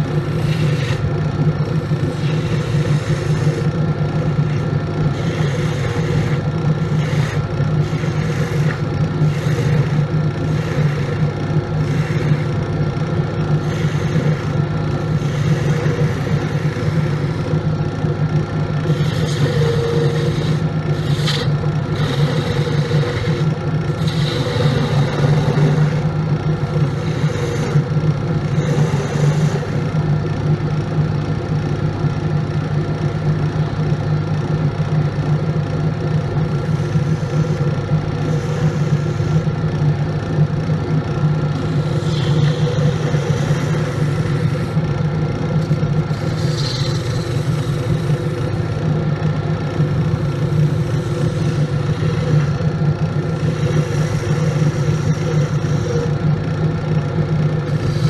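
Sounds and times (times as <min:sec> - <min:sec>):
tool cutting spinning wood: 0:00.0 - 0:31.8, 0:34.4 - 0:58.0
wood lathe motor hum: 0:00.0 - 0:58.0.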